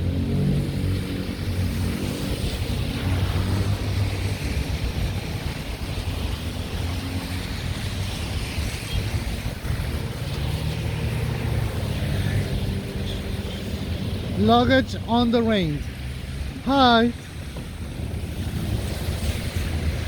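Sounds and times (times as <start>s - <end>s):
tyres on wet road: 0.0s - 20.0s
vehicle engines running low: 0.0s - 20.0s
rain hissing: 0.1s - 20.0s.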